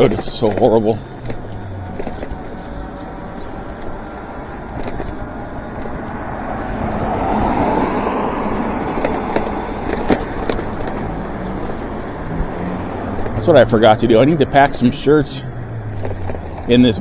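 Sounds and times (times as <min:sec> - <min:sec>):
knocks and rattles from bumps: 0:00.0 - 0:17.0
tyre and wind noise: 0:00.0 - 0:17.0.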